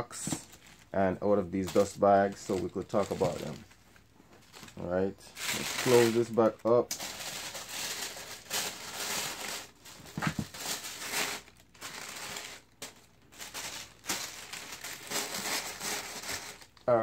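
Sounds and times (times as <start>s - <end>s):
tissue paper rustling: 1.5s - 3.8s, 4.4s - 16.8s.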